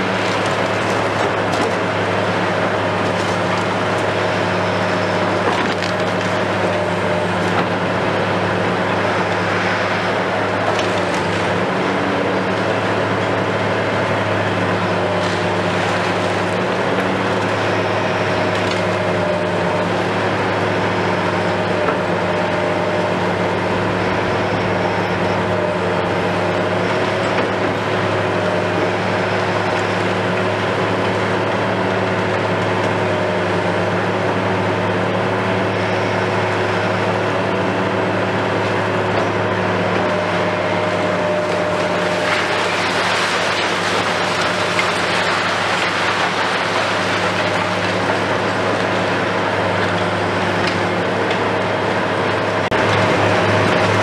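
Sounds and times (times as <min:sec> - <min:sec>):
excavator diesel drone: 0:00.0 - 0:54.0.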